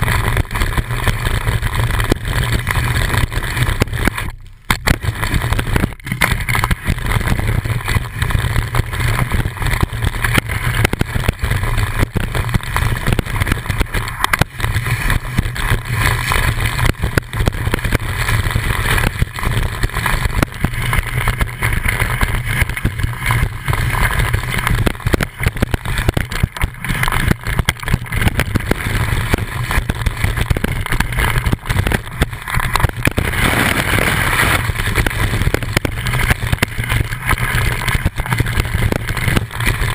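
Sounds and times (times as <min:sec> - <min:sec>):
skis sliding over snow: 0:00.0 - 0:39.9.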